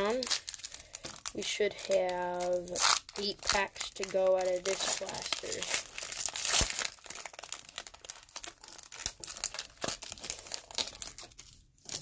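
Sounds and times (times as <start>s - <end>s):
foil wrapper crinkling: 0.0s - 12.0s
foil wrapper ripping: 0.0s - 12.0s.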